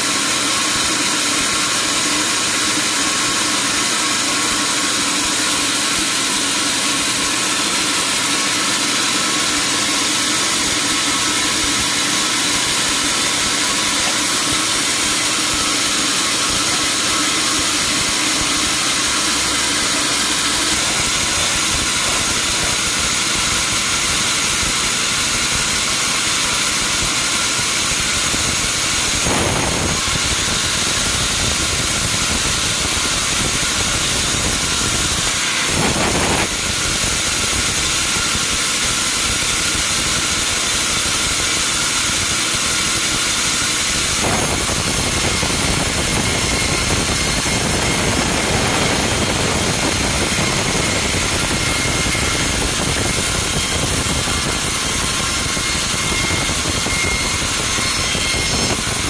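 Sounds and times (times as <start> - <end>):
sawmill machinery hissing: 0.0 - 59.0.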